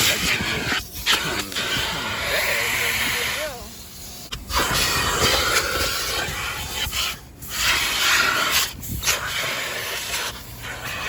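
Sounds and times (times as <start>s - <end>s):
car wash equipment hissing: 0.0s - 11.0s.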